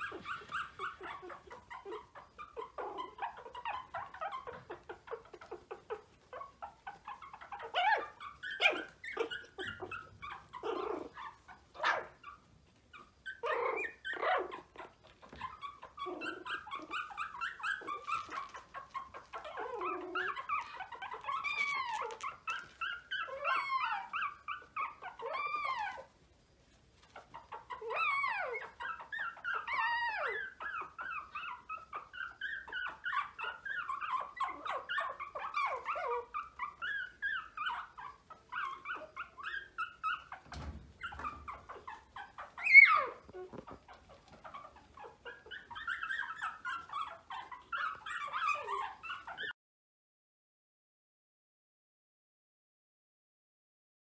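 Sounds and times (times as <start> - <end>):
puppies yelping: 0.0 - 26.2, 27.0 - 49.6
puppies whimpering and yipping: 0.0 - 49.6.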